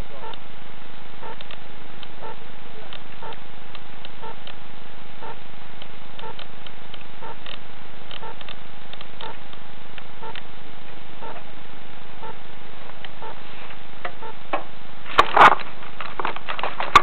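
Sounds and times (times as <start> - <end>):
camera microphone hiss: 0.0 - 17.0.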